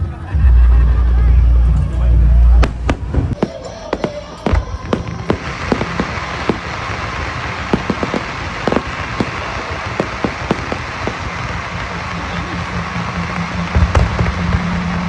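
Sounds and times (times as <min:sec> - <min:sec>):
fireworks bangs and pops: 0:02.6 - 0:15.0.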